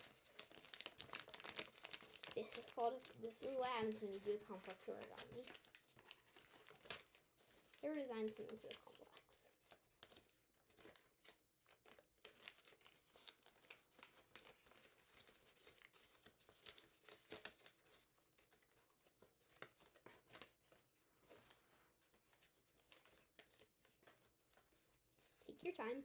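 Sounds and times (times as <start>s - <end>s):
paper crinkling and rustling: 0.0s - 26.0s.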